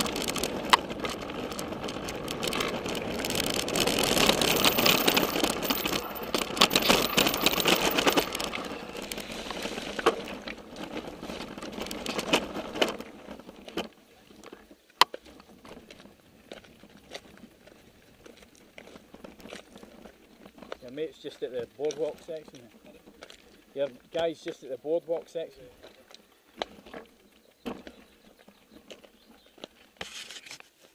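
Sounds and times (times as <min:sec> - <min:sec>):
bike rattling over stones: 0:00.0 - 0:30.6.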